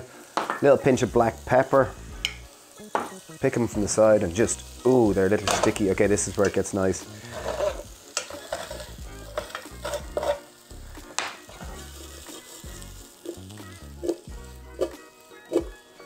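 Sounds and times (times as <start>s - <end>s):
potatoes sizzling in oil: 0.0s - 16.0s.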